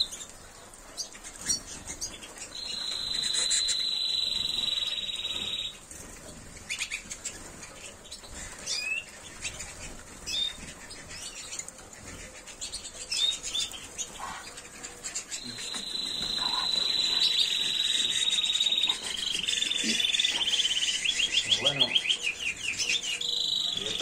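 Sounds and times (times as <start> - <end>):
bird chirps and calls: 0.0 - 5.8, 6.6 - 24.0
canary rolling trill: 1.4 - 24.0.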